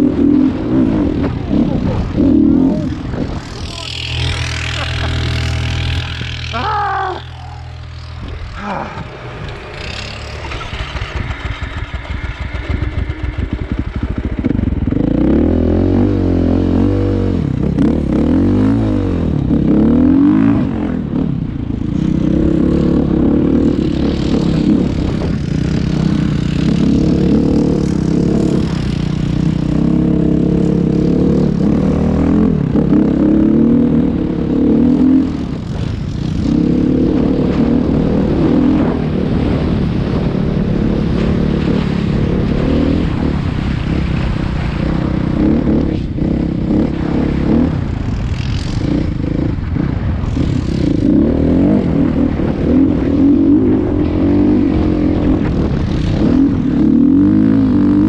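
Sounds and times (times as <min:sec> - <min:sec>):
engine running unevenly: 0:00.0 - 0:58.0.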